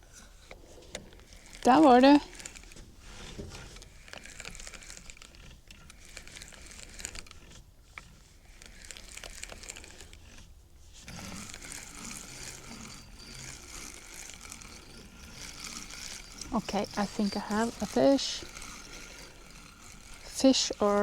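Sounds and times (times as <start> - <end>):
faint rustling and crinkling: 0.0 - 21.0
small clicks and ticks: 0.1 - 21.0.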